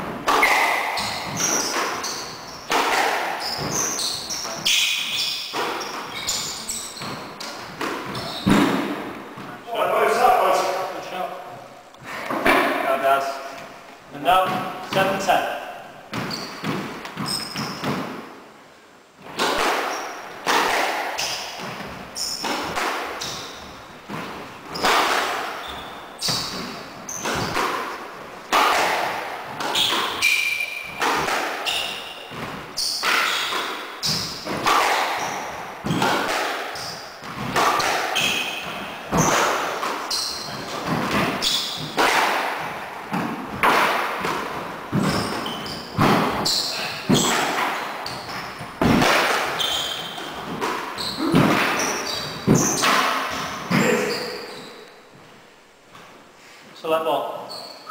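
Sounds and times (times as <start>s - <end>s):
squash ball hits: 0.0s - 9.5s, 14.3s - 18.4s, 19.2s - 54.1s
shoes squeaking on wooden floor: 0.2s - 15.4s, 16.0s - 18.2s, 19.2s - 28.6s, 29.4s - 56.2s, 57.4s - 57.9s.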